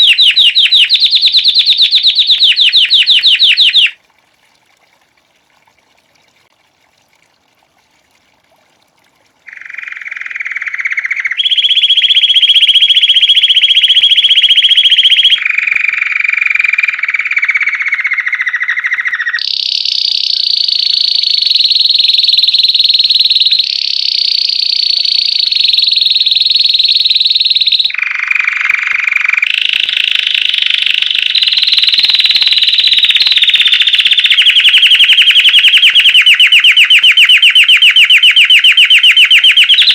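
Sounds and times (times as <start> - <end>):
canary singing rapid trills: 0.0 - 4.0, 9.5 - 39.9.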